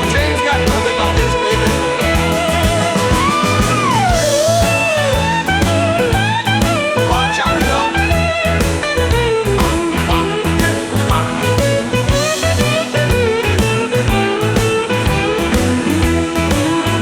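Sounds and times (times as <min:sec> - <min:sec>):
bass: 0:00.0 - 0:17.0
drum beat: 0:00.0 - 0:17.0
lead guitar bending notes: 0:00.0 - 0:17.0.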